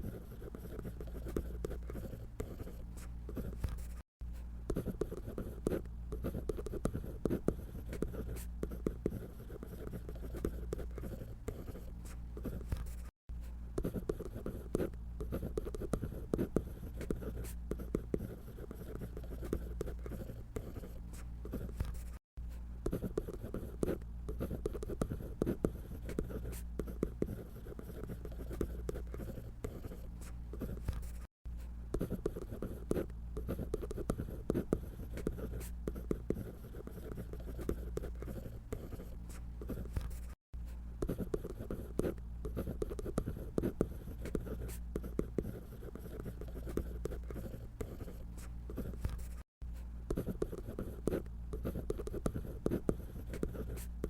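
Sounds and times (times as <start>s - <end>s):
drawing tool scratching paper: 0.0s - 4.0s, 4.7s - 13.1s, 13.8s - 22.2s, 22.8s - 31.3s, 31.9s - 40.4s, 41.0s - 49.5s, 50.1s - 54.0s.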